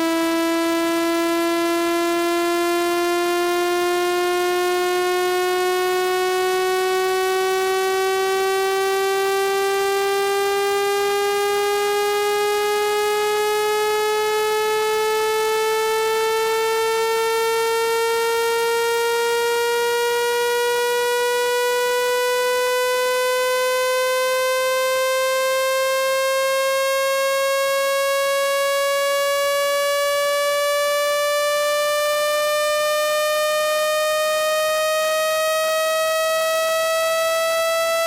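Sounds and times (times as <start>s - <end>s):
rising buzzing test tone: 0.0s - 38.0s.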